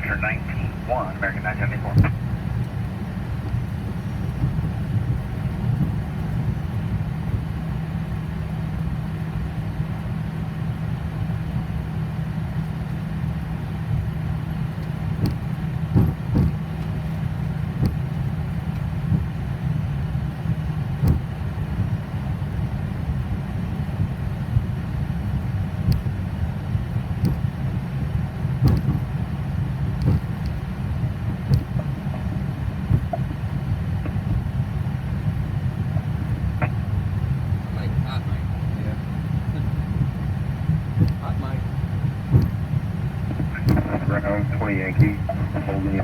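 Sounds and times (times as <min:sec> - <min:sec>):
jet engines idling: 0:00.0 - 0:46.0.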